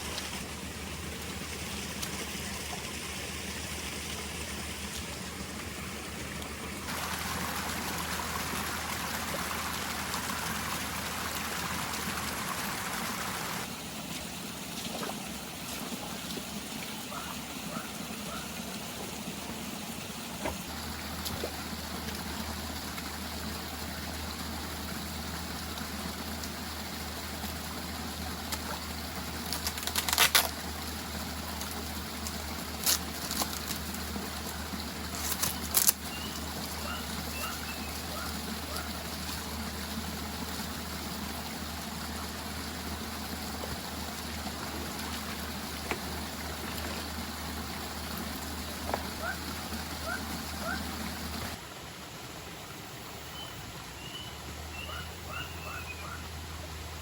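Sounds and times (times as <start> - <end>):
forest stream rushing: 0.0 - 57.0.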